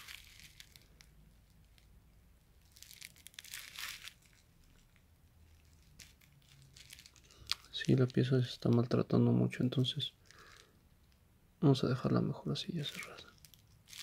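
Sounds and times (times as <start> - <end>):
bubble wrap crinkling: 0.0 - 11.2, 12.5 - 14.0.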